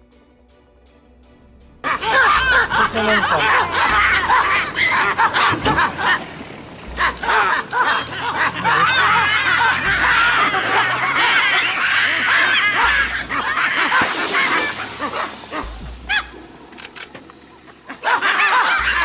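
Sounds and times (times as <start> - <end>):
monkeys shrieking and chattering: 1.8 - 19.0
hissing rush: 1.9 - 17.6.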